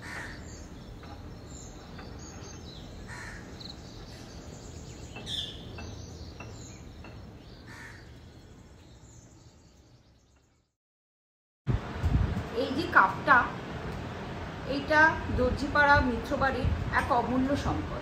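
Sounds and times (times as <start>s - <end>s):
steady background noise: 0.0s - 10.4s, 11.7s - 18.0s.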